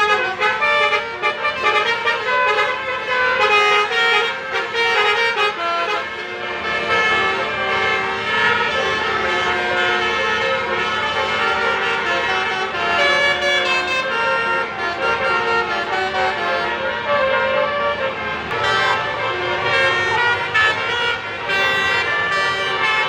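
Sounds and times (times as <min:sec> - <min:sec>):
bus air horn playing a melody: 0:00.0 - 0:23.0.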